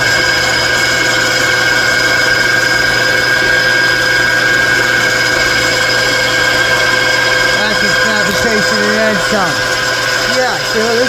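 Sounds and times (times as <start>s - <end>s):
machine tool whine and hum: 0.0s - 11.0s.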